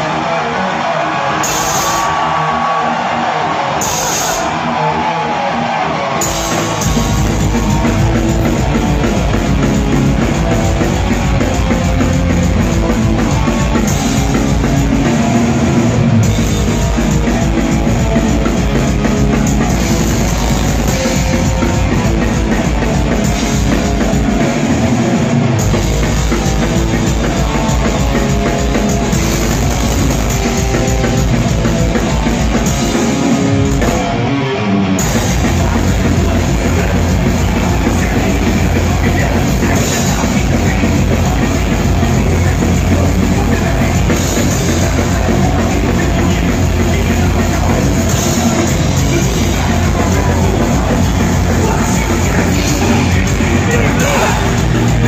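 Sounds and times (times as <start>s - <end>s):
drum kit: 0.0s - 55.0s
electric guitar: 0.0s - 55.0s.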